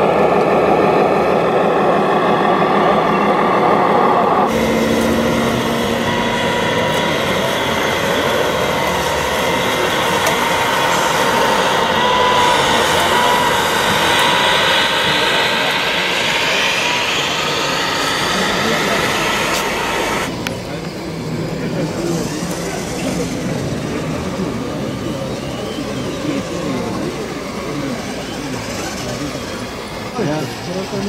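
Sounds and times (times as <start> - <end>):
model dump truck running: 2.6 - 31.0.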